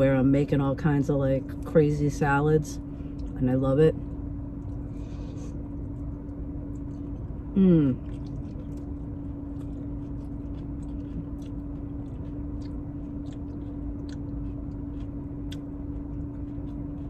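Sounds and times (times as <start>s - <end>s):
steady low hum: 0.0s - 17.0s
chewing salad with small crunches: 0.2s - 17.0s.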